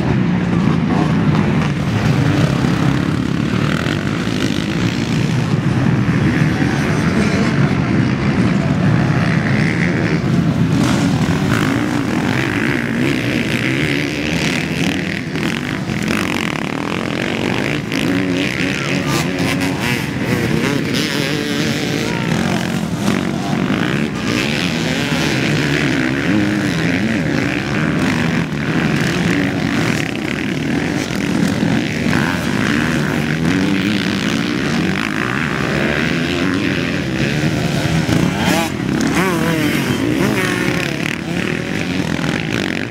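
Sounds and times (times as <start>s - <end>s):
dirt bikes racing past: 0.0s - 42.9s.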